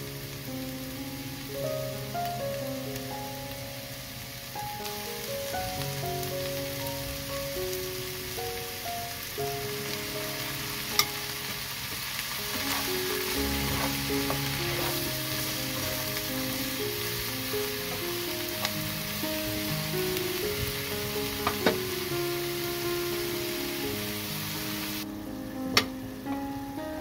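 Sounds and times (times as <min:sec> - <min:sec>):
mushrooms sizzling in a frying pan: 0:00.0 - 0:27.0.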